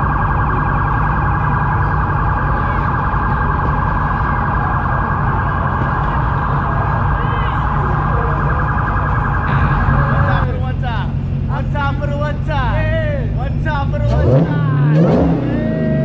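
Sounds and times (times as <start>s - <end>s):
car engine rumbling: 0.0s - 16.0s
supercharger whine: 0.0s - 16.0s.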